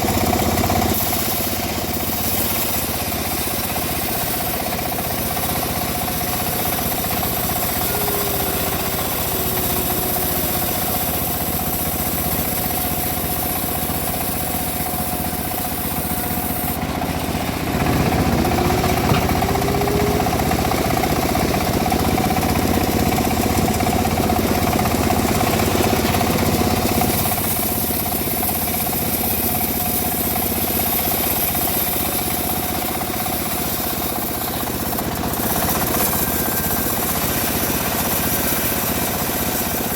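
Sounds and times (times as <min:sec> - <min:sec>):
bandsaw mill droning: 0:00.0 - 0:39.9.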